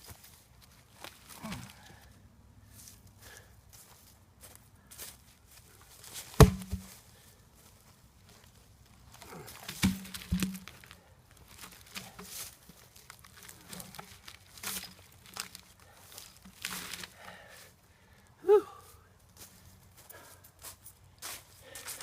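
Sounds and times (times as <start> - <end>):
leaves and brush rustling: 0.0 - 17.7.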